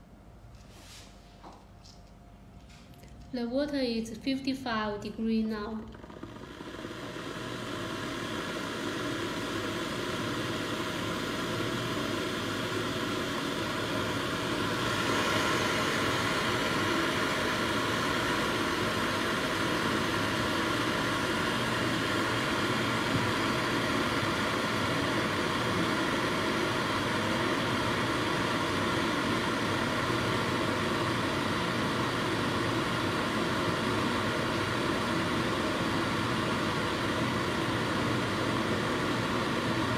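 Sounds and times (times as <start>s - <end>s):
electric kettle heating water: 3.4s - 39.9s.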